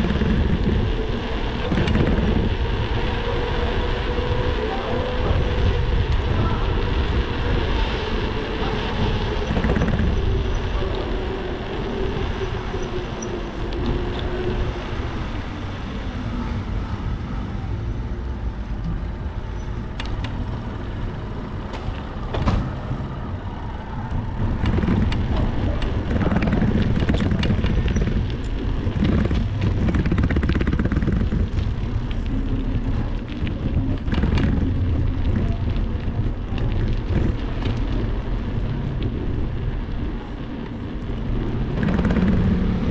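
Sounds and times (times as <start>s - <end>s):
bicycle road rumble: 0.0s - 42.9s
wind buffeting microphone: 0.0s - 42.9s.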